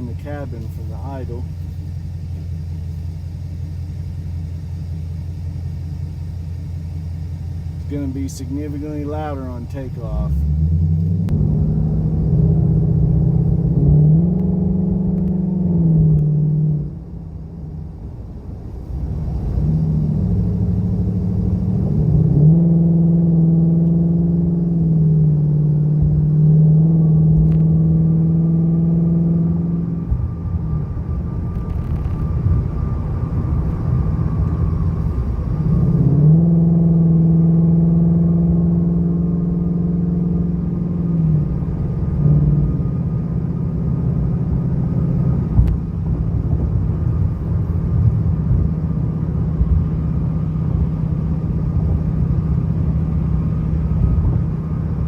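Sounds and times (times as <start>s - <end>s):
car engine accelerating through gears: 7.8s - 17.8s, 18.4s - 55.0s.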